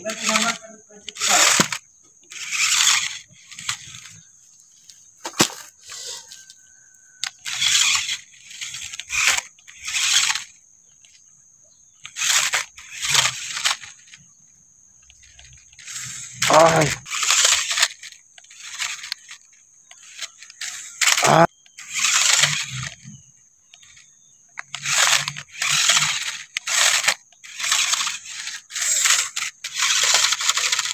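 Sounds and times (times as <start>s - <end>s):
toy car motor whirring: 0.0s - 30.9s.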